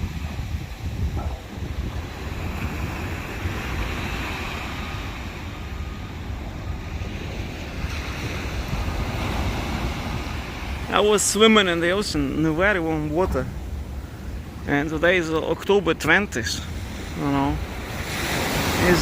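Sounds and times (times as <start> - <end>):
ocean surf breaking: 0.0 - 19.0
wind rumbling on microphone: 0.0 - 19.0.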